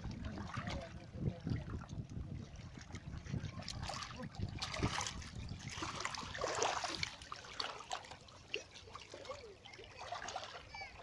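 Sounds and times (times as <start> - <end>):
seawater trickling and splashing: 0.0 - 11.0.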